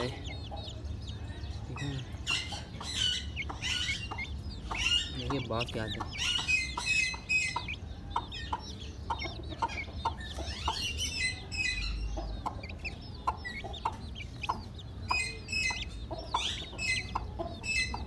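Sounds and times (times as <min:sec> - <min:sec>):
chickens clucking: 0:00.0 - 0:18.0
chicks peeping: 0:00.0 - 0:18.0.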